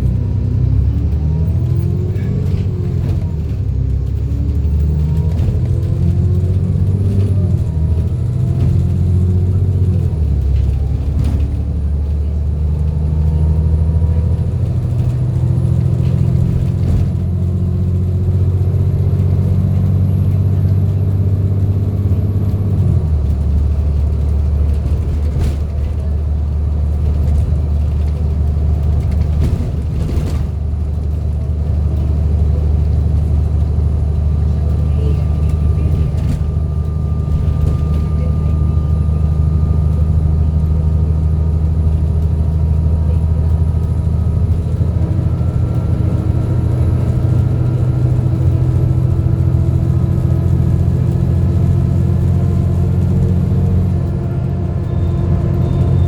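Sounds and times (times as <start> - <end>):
bus engine running under load: 0.0 - 56.0
high engine whine: 0.0 - 56.0.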